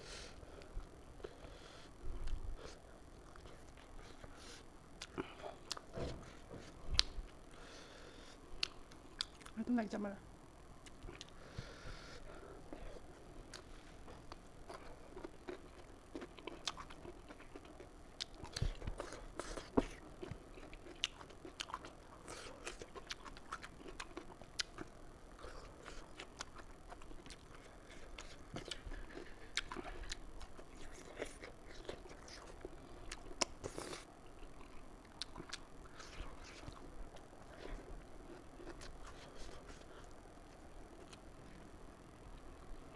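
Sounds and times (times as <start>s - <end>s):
person chewing food: 0.2s - 9.6s, 10.8s - 41.7s.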